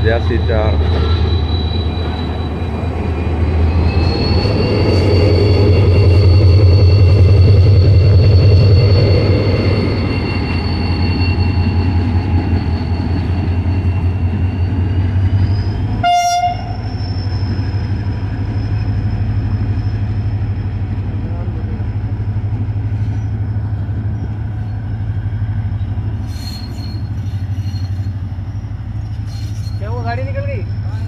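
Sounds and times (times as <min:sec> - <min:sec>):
diesel locomotive passing: 0:00.0 - 0:31.0.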